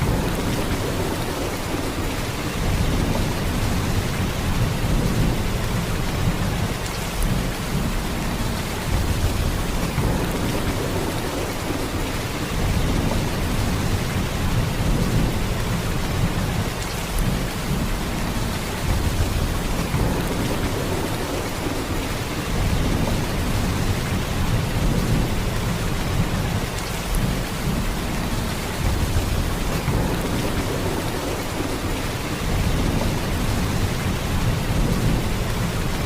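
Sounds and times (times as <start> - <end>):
heavy rain downpour: 0.0 - 36.0.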